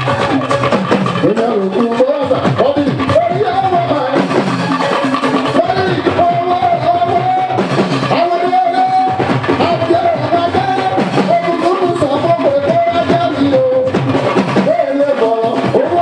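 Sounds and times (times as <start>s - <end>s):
driving drums and percussion: 0.0s - 16.0s
live band music: 0.0s - 16.0s.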